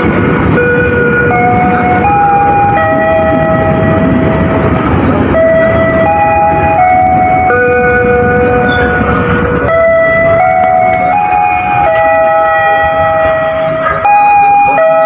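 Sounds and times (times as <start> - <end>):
train pulling into station: 0.0 - 15.0.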